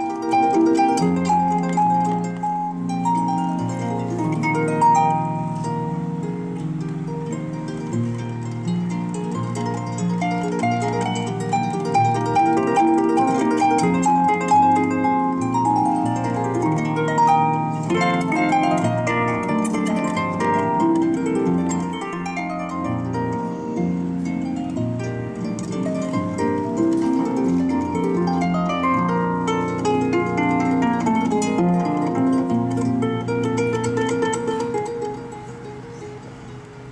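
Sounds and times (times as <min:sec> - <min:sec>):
harp playing a waltz: 0:00.0 - 0:36.9.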